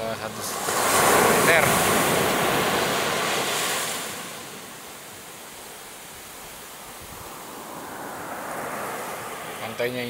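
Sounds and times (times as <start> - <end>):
ocean surf breaking: 0.0 - 10.0
foam hissing on sand: 0.2 - 10.0.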